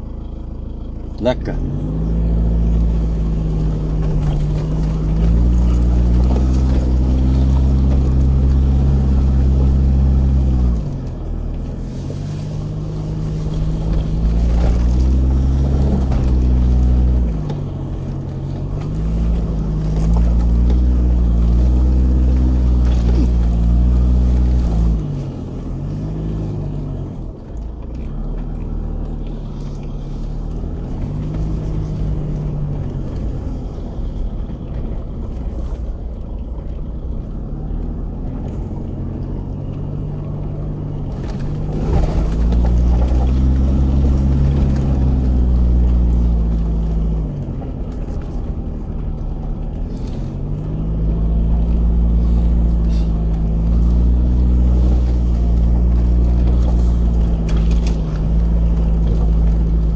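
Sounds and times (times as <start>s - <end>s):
vehicle engine revving uphill: 0.0s - 59.9s.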